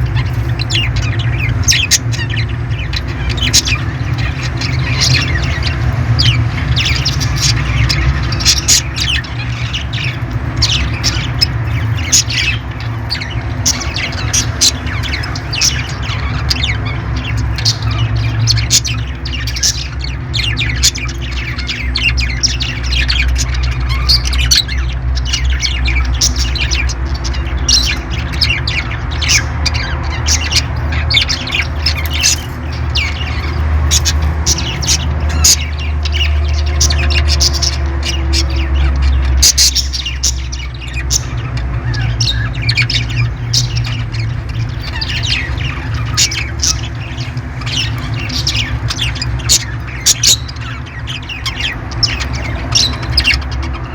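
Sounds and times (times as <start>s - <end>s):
parrots squawking and chirping: 0.0s - 53.9s.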